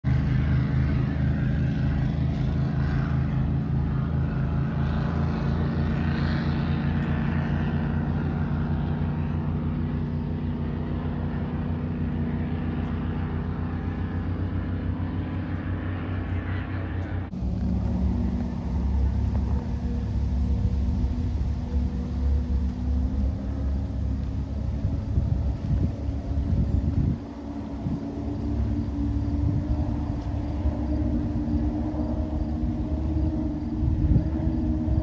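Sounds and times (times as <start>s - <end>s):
engine drone: 0.0s - 35.0s.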